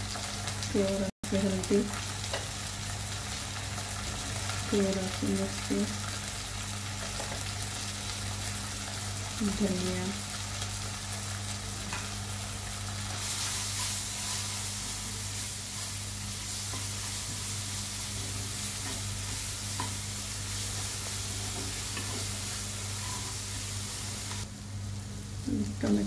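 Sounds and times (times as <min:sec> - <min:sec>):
spices sizzling in hot oil: 0:00.0 - 0:26.0.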